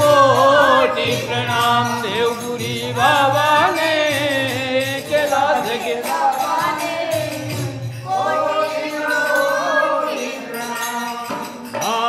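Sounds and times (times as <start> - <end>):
jingling percussion beat: 0.0 - 12.0.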